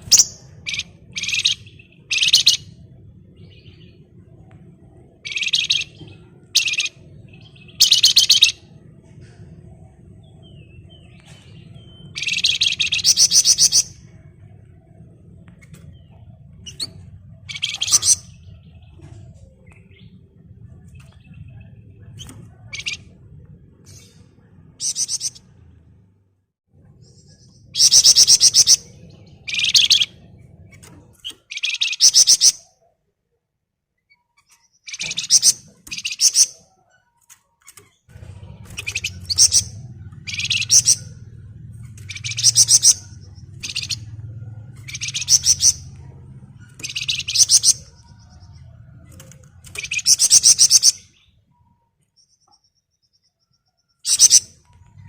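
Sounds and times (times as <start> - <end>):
bird trilled song: 0.0 - 25.5, 27.0 - 32.9, 34.0 - 55.0
low hum: 0.0 - 31.5, 38.1 - 52.4.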